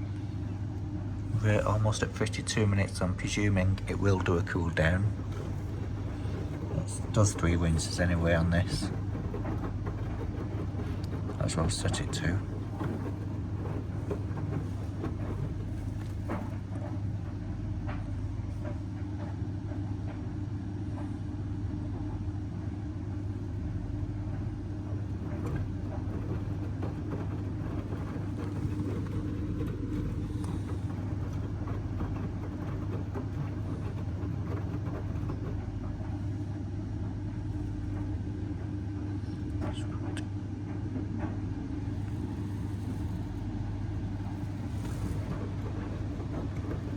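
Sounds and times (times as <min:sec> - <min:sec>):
washing machine humming: 0:00.0 - 0:46.9
faint clicks and knocks: 0:01.2 - 0:20.2, 0:22.9 - 0:38.3, 0:39.2 - 0:46.9.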